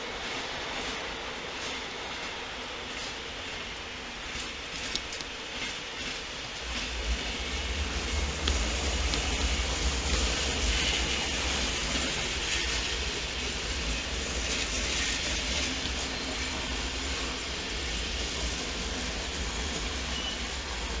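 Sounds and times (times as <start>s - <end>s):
train rumbling on tracks: 0.0s - 21.0s
wheels hissing on rails: 0.0s - 21.0s.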